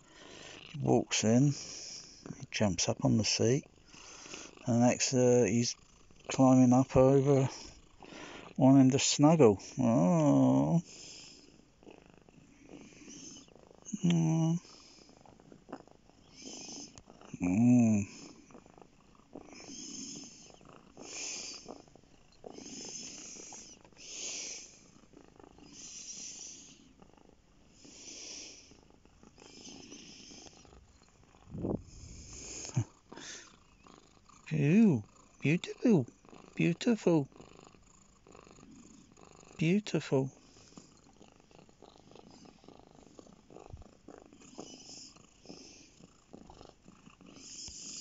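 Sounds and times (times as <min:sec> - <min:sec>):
cat purring: 0:00.0 - 0:48.0.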